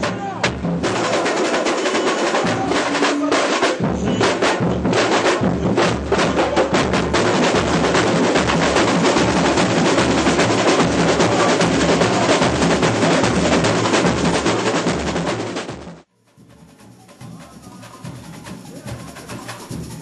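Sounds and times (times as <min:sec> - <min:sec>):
snare drums and percussion: 0:00.0 - 0:20.0.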